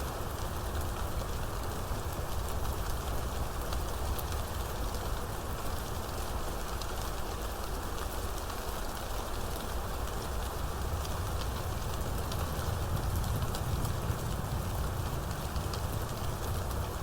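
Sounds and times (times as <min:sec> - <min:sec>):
steady rain falling: 0:00.0 - 0:17.0
ticks of raindrops: 0:02.2 - 0:17.0.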